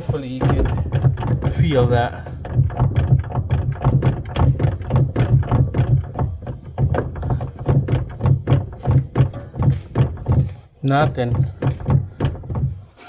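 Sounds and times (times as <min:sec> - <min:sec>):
car hatch knocking and thumping: 0:00.0 - 0:13.0.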